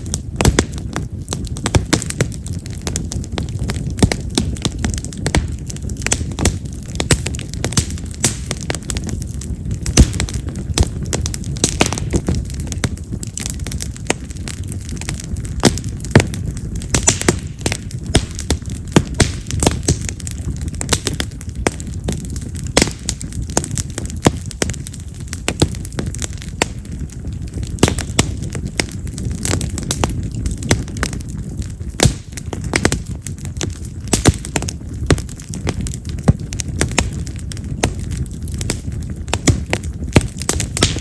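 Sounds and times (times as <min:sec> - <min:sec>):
low rumble of flame: 0:00.0 - 0:41.0
sharp pops of fire: 0:00.0 - 0:41.0
wood fire crackling: 0:00.0 - 0:41.0.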